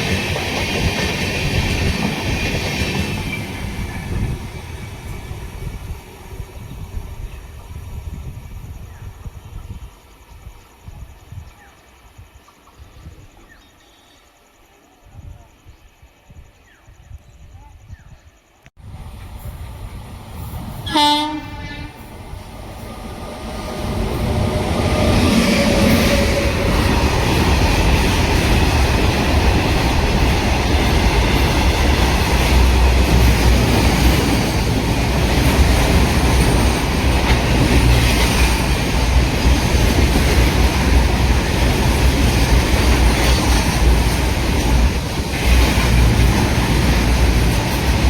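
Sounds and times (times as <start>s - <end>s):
train wheels rumbling on rails: 0.0s - 11.7s, 18.8s - 48.0s.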